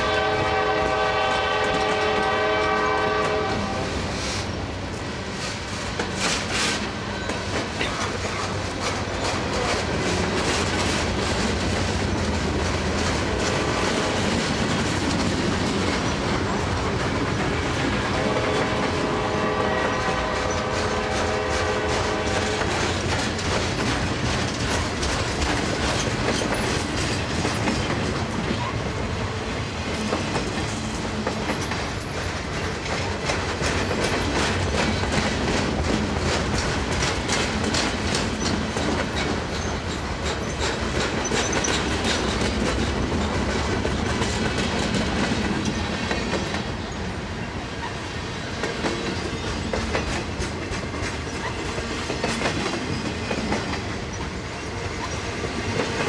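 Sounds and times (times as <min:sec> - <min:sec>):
train wheels rumbling on rails: 0:00.0 - 0:56.0
wheels clacking over rail joints: 0:05.5 - 0:56.0.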